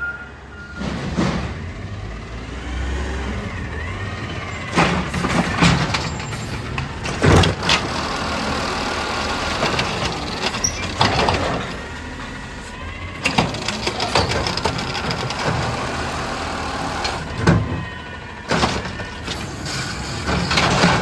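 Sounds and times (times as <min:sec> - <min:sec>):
engine whine: 0:00.0 - 0:21.0
garbage truck engine rumble: 0:00.0 - 0:21.0.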